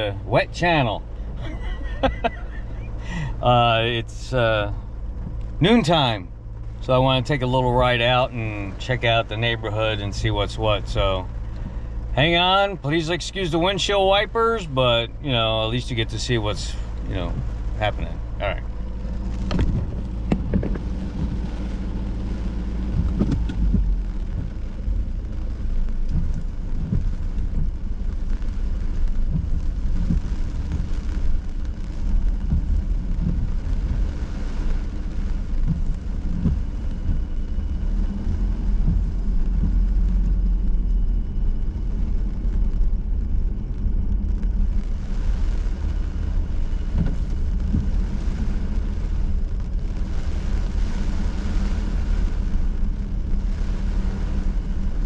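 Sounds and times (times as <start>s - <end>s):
car engine and road rumble: 0.0s - 55.0s
rain beating on car: 0.0s - 55.0s.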